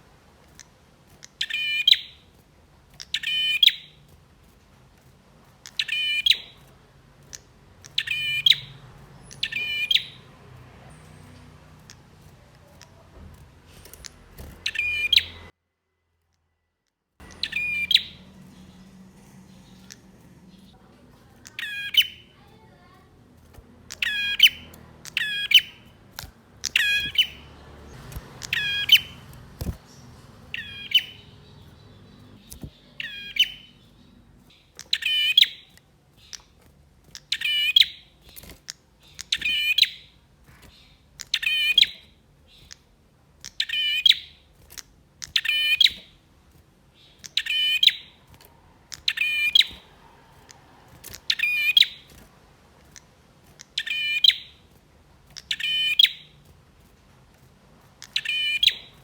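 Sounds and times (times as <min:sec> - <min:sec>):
bird calling sharp phrases: 0:00.6 - 0:02.4, 0:03.0 - 0:04.1, 0:05.6 - 0:15.5, 0:17.2 - 0:46.2, 0:46.9 - 0:52.2, 0:52.8 - 0:54.7, 0:55.3 - 0:56.5, 0:58.0 - 0:59.0.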